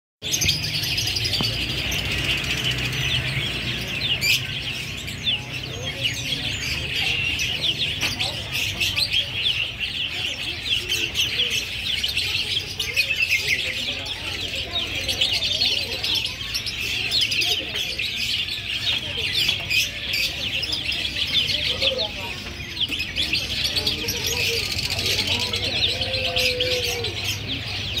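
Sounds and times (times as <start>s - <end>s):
songbirds chirping: 0.2s - 28.0s.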